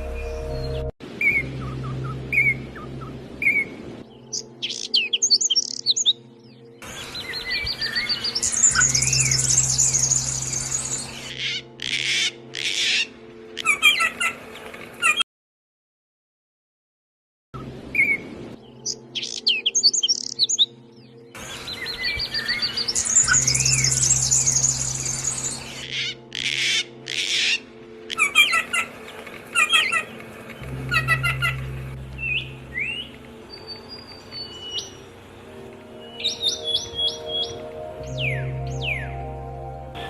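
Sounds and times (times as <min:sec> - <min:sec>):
songbirds chirping and trilling: 0:00.0 - 0:15.2, 0:17.6 - 0:40.0.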